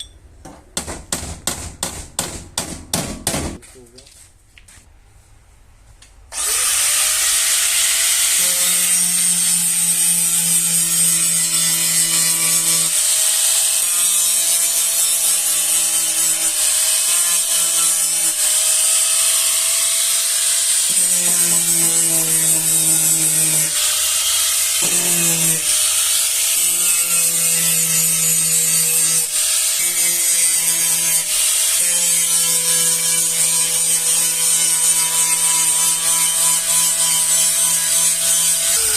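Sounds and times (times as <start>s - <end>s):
power tool grinding metal: 6.4s - 38.9s.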